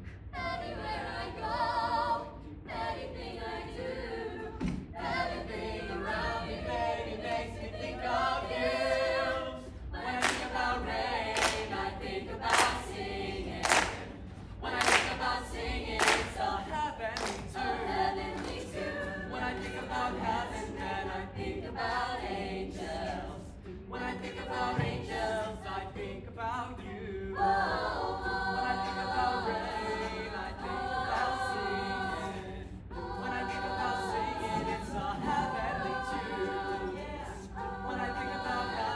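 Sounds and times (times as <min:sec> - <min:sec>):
choir singing a cappella: 0:00.0 - 0:38.9.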